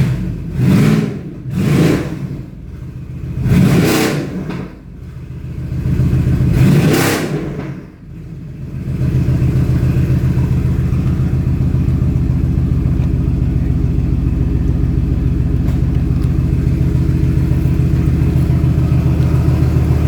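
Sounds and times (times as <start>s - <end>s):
car engine idling: 0.0s - 20.0s
car engine revving: 0.0s - 20.0s.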